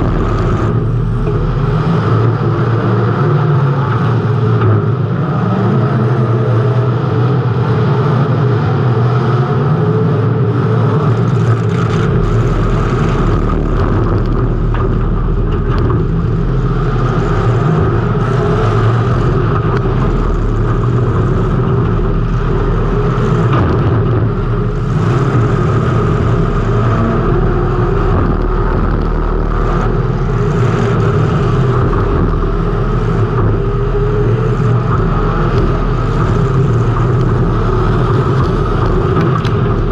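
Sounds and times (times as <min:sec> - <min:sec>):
deeper rumble: 0:00.0 - 0:39.9
race car engine running hard: 0:00.0 - 0:39.9.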